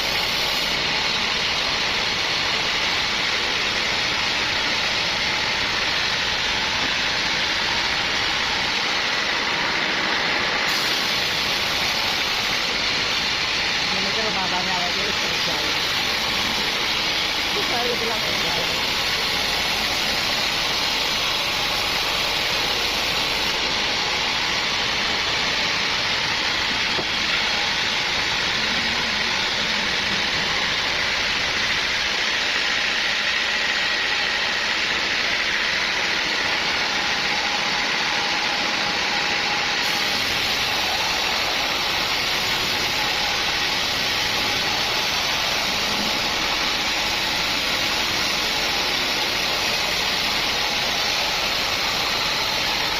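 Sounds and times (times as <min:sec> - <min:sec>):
sawmill machinery running: 0:00.0 - 0:52.9.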